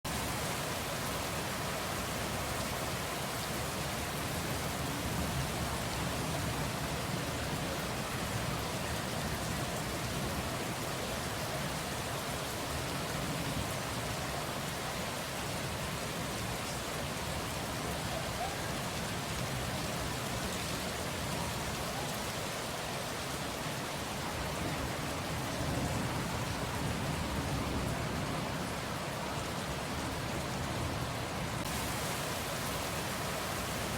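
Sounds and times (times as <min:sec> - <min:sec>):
steady rain patter: 0:00.0 - 0:33.9.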